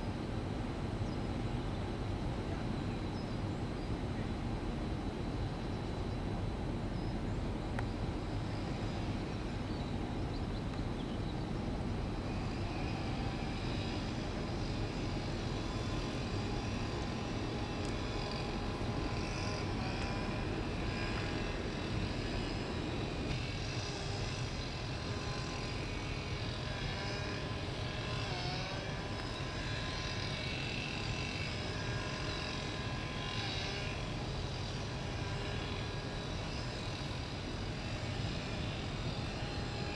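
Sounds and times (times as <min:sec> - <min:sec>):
low drone of machinery: 0:00.0 - 0:39.9.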